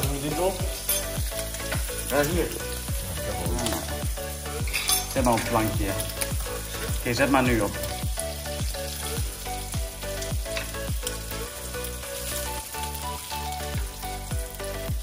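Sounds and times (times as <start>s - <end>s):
background music with deep kick drum: 0.0s - 15.0s
food frying sizzle: 0.0s - 15.0s.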